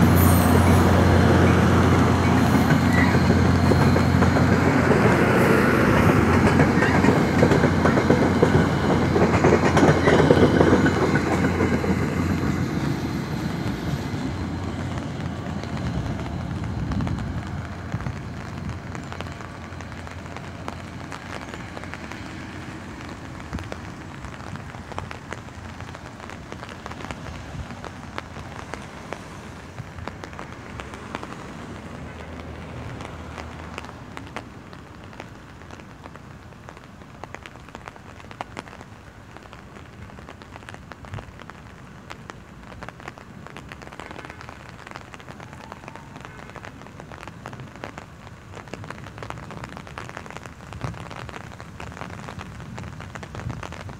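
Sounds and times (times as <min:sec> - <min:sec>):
diesel train rumble: 0:00.0 - 0:53.9
rain pattering on an umbrella: 0:00.0 - 0:53.9.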